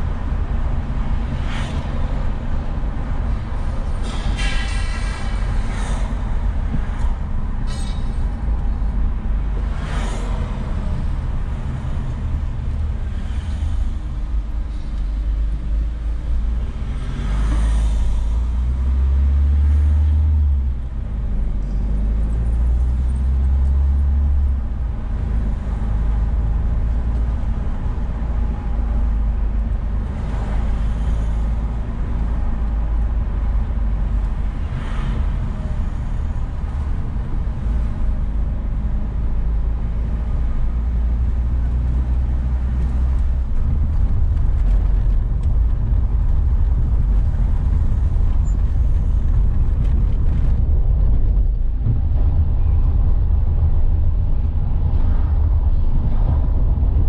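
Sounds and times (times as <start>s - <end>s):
car road and engine rumble: 0.0s - 57.0s
vehicles whooshing past: 0.0s - 57.0s.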